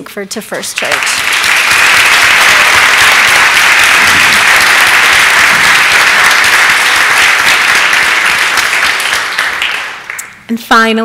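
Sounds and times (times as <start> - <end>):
crowd clapping: 0.7 - 10.5.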